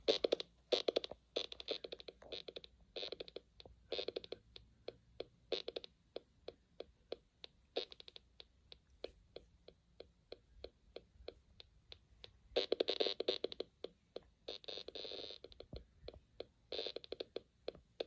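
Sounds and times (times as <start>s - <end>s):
rapid dry clicking: 0.0s - 18.0s.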